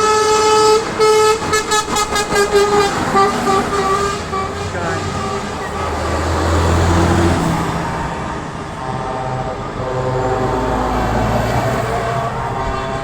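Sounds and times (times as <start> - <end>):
diesel truck engines: 0.0 - 13.0
road noise: 0.0 - 13.0.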